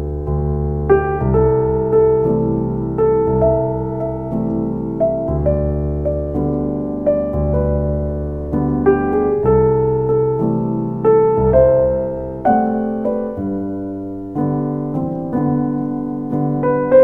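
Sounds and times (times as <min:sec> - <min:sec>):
slow soft piano music: 0:00.0 - 0:17.0.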